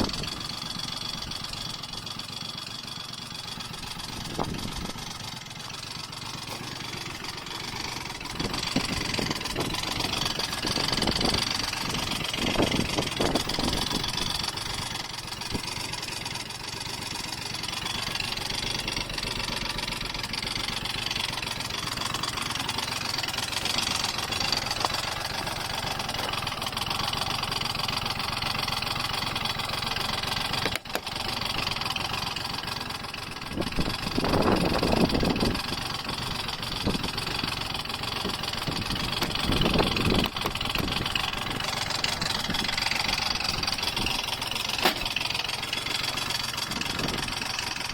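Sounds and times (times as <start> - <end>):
scooter engine idling and revving: 0.0 - 47.9.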